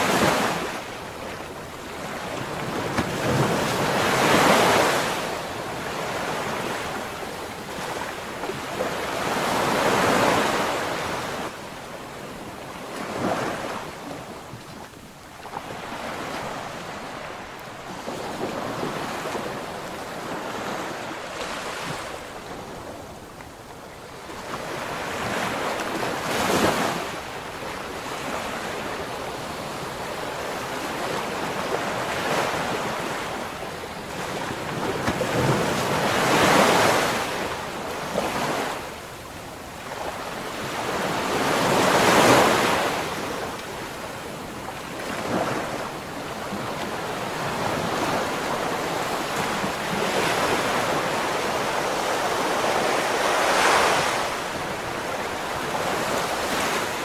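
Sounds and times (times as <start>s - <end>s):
ocean waves crashing on shore: 0.0s - 57.0s.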